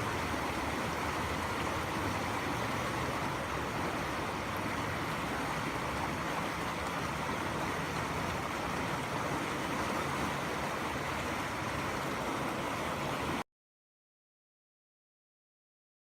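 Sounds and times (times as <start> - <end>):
river rushing: 0.0 - 13.4.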